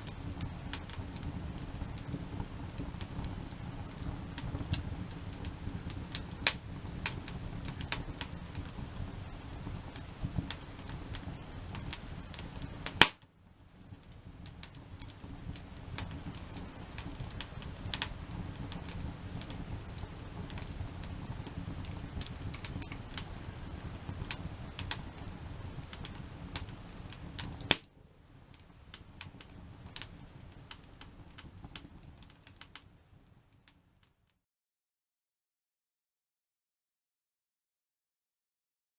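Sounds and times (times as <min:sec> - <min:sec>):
sharp snaps of burning wood: 0:00.0 - 0:33.0
low rush of flame: 0:00.0 - 0:33.7
campfire crackling and popping: 0:00.0 - 0:34.1.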